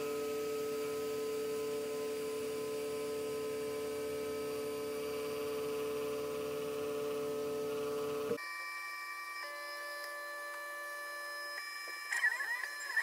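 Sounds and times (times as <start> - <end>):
laser engraver motors humming and whining: 0.0 - 13.0.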